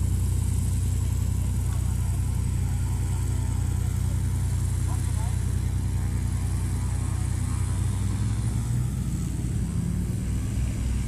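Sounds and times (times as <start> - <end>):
plane piston engine droning: 0.0 - 11.0.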